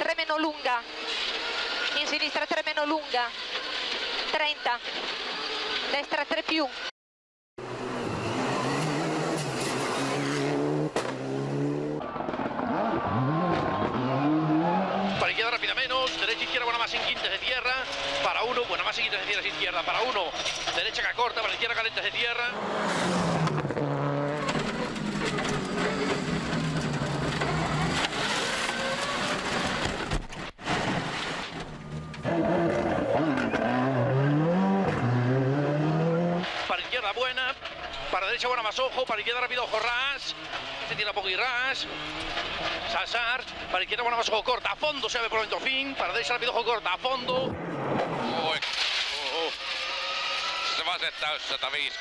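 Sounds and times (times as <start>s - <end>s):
rally car engine at full throttle: 0.0s - 6.9s, 7.6s - 52.0s
tyre and road noise: 7.6s - 51.9s.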